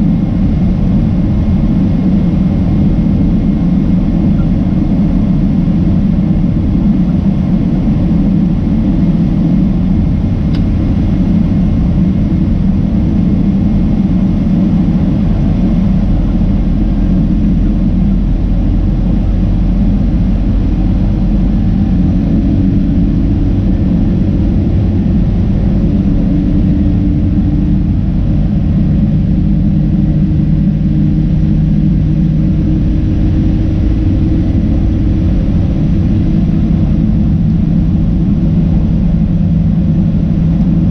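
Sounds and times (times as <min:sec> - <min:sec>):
faint engine tones: 0:00.0 - 0:40.9
jet engine rumble: 0:00.0 - 0:40.9
rushing air: 0:00.0 - 0:40.9.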